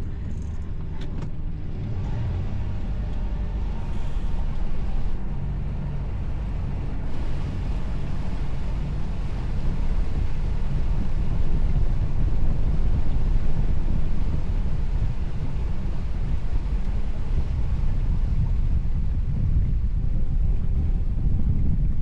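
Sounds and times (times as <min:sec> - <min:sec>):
boat engine droning: 0:00.0 - 0:22.0
wind buffeting microphone: 0:00.0 - 0:22.0.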